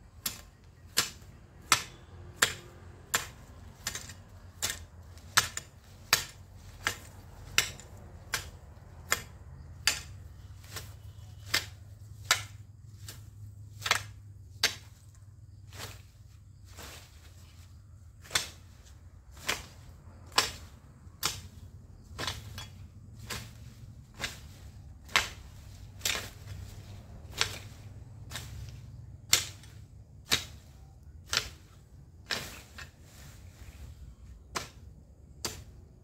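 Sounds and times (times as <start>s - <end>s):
hoe chopping into soil: 0.1s - 36.0s.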